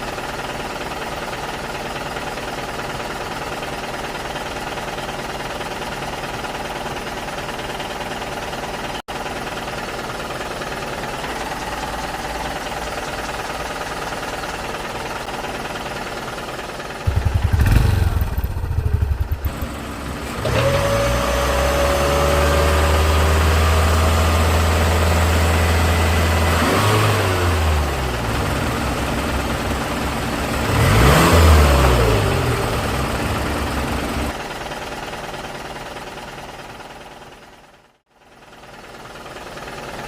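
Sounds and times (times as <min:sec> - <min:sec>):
small engine chugging and revving: 0:00.0 - 0:36.8.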